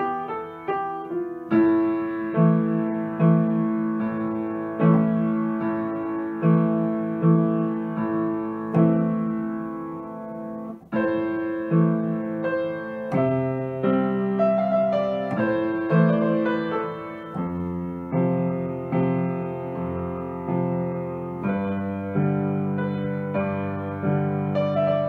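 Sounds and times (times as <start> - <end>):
grand piano chords: 0.0 - 25.0.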